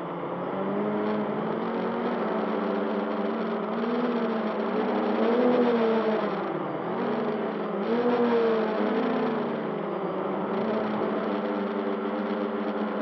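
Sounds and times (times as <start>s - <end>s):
drone motors whining: 0.4s - 13.0s.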